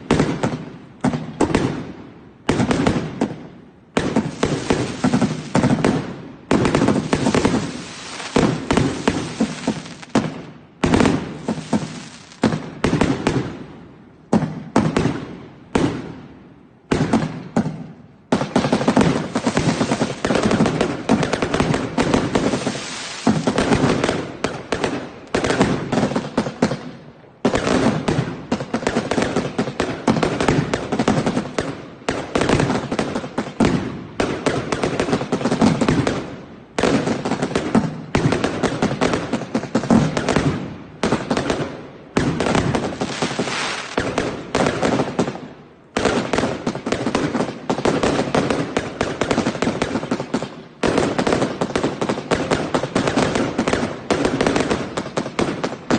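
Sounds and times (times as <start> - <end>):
fireworks banging and crackling: 0.0 - 55.9.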